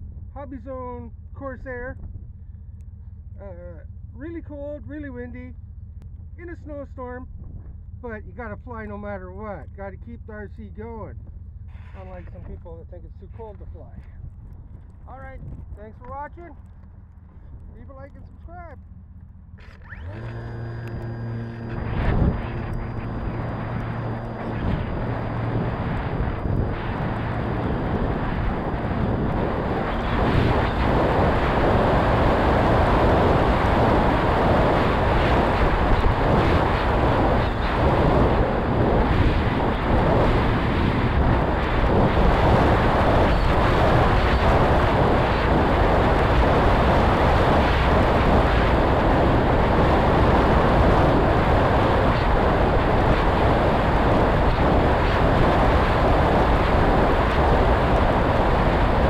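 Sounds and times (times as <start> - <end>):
wind buffeting microphone: 6.2 - 59.0.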